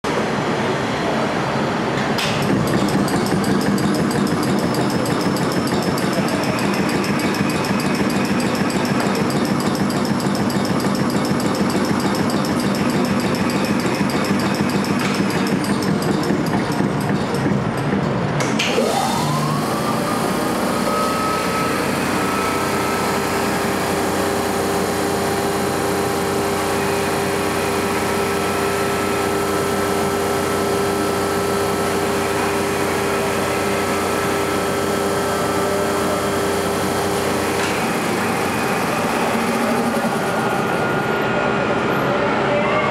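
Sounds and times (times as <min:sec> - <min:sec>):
air compressor motor whine: 0:00.0 - 0:42.5
mechanical hum: 0:00.0 - 0:42.9.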